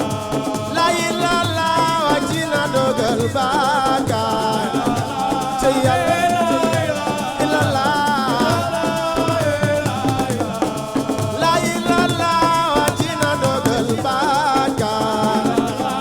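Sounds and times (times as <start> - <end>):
drums and shakers: 0.0 - 16.0.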